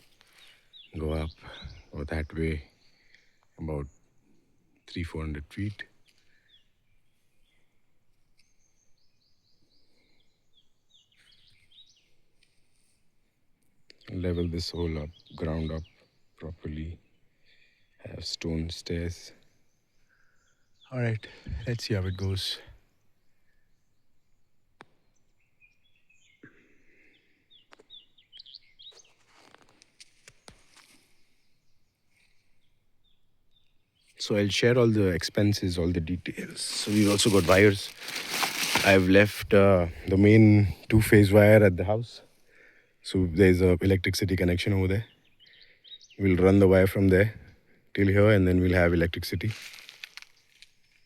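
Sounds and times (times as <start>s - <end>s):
faint birdsong chirps: 0.0s - 51.0s.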